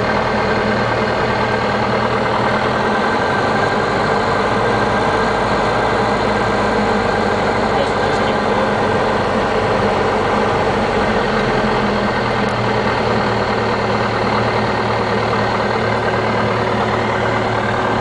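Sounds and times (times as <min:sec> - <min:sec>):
propeller aircraft engine running: 0:00.0 - 0:18.0.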